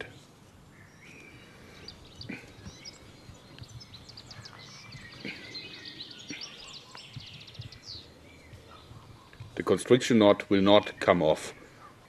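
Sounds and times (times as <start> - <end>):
songbirds chirping and singing: 0.0 - 12.0.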